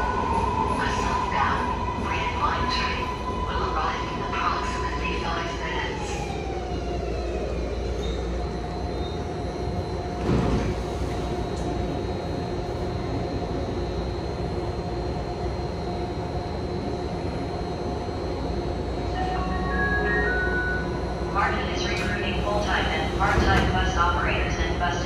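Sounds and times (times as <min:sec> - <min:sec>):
train equipment humming with held tones: 0:00.0 - 0:25.0.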